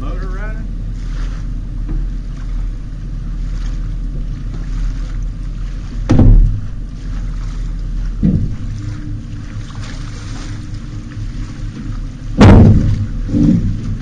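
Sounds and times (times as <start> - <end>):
heavy thuds in aluminium boat: 0.0 - 14.0
steady low rumble: 0.0 - 14.0.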